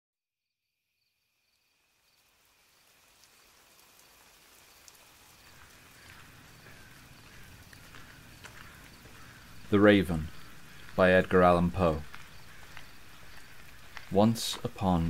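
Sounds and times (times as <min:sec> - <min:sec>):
faint insect trill: 0:00.4 - 0:15.0
rain hissing: 0:01.6 - 0:15.0
ticks of raindrops: 0:01.6 - 0:15.0.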